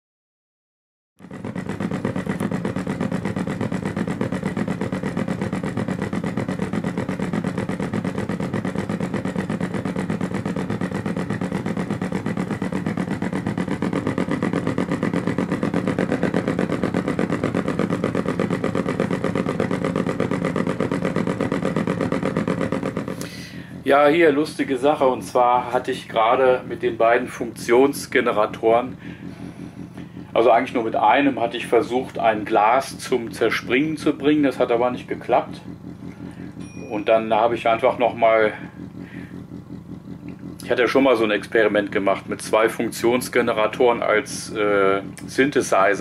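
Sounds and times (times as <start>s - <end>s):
pulsing synthetic engine drone: 1.2s - 46.0s.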